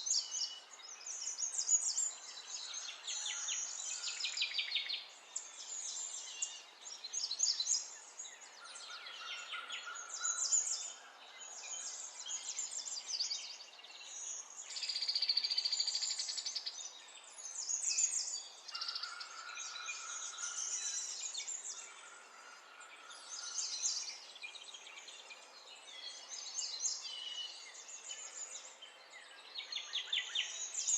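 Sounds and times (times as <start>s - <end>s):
birds chirping and trilling: 0.0s - 30.9s.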